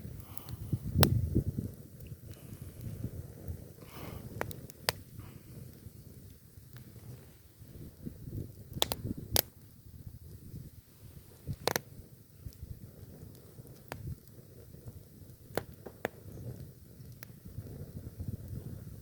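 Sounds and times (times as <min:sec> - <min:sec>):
low rumble of flame: 0:00.0 - 0:19.0
wood crackling and popping: 0:00.0 - 0:19.0.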